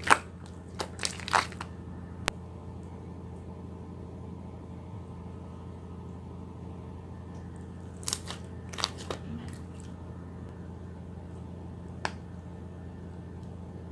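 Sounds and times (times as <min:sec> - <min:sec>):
low electrical hum: 0:00.0 - 0:13.9.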